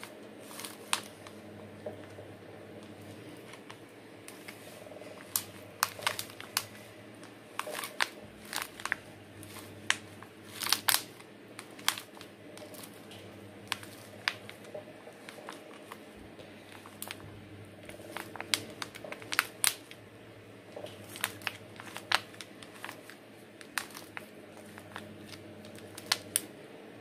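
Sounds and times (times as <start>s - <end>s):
plastic pot crinkling and crackling: 0.0s - 26.6s.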